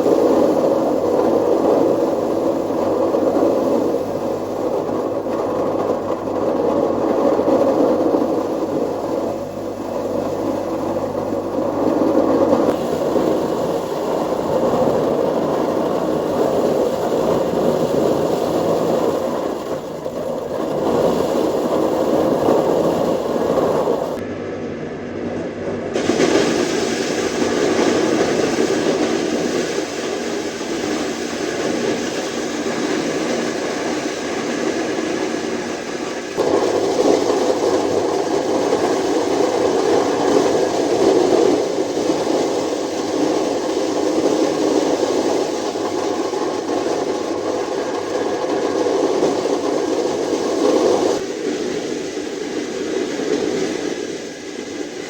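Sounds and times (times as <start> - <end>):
loud steady rushing noise: 0.0 - 55.0.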